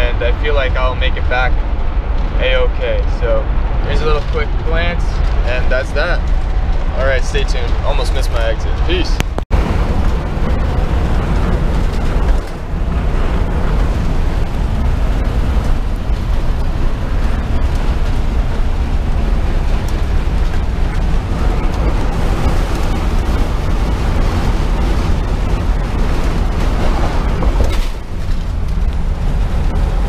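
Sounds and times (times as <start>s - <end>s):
engine rumble inside vehicle cab: 0.0s - 30.0s
road noise: 0.0s - 30.0s.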